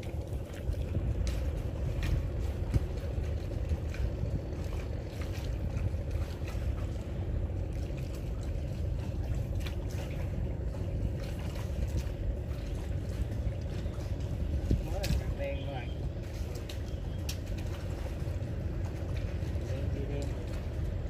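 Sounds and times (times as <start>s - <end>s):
low motor drone: 0.0s - 21.0s.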